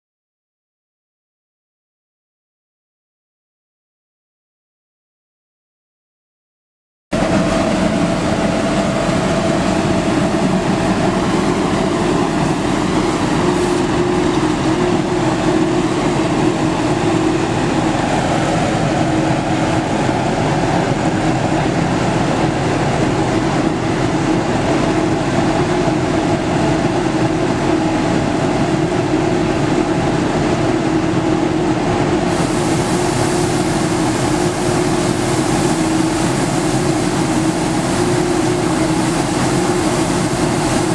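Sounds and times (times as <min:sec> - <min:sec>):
street sweeper mechanical drone: 0:07.2 - 0:40.9
vacuum fan whine: 0:07.2 - 0:40.9.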